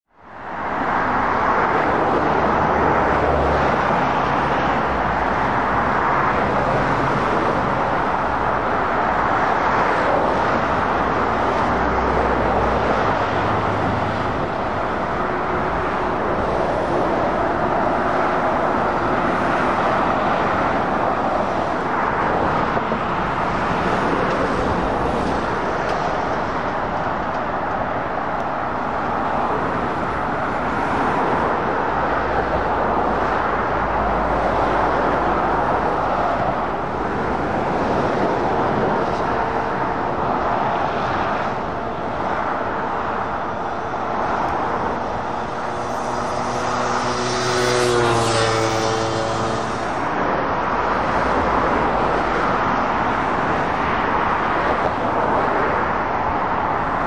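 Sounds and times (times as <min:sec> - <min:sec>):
traffic tyre roar: 0:00.1 - 0:57.0.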